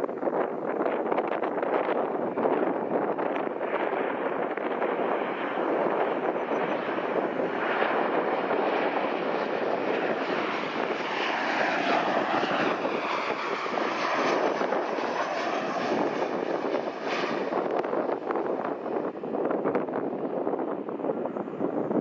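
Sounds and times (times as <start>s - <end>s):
jet engine rush: 0.0s - 22.0s.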